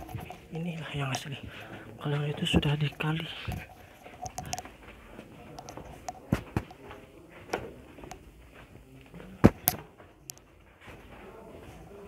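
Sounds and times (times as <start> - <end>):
faint murmur of voices: 0.0 - 12.0
footsteps in a tunnel: 0.0 - 12.0.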